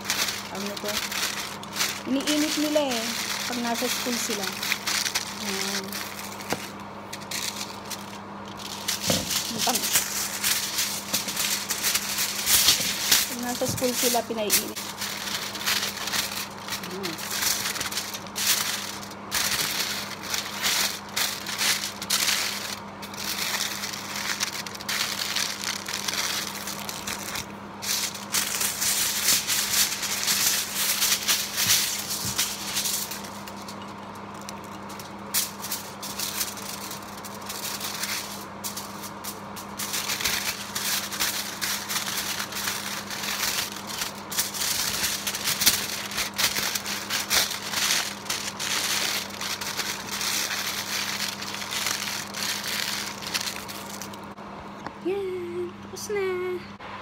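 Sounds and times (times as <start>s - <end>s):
aluminium foil crinkling: 0.0s - 54.4s.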